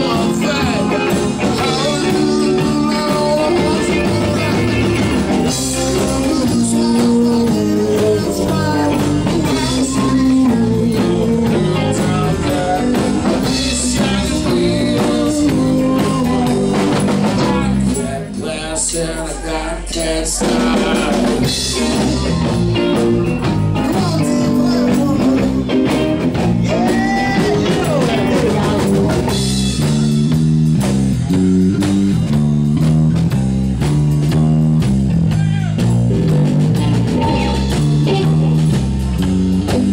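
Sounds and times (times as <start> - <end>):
bass guitar: 0.0 - 39.9
drums: 0.0 - 39.9
electric guitar: 0.0 - 39.9.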